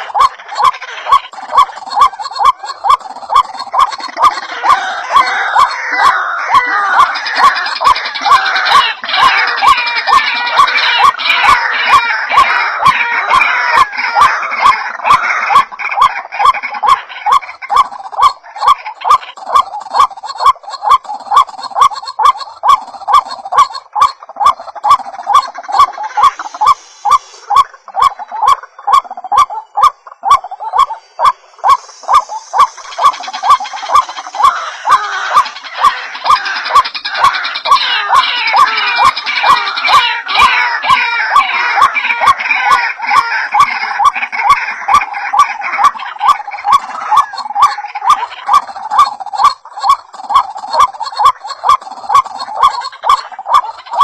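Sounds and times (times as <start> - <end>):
waterhen calls: 0.0 - 54.0.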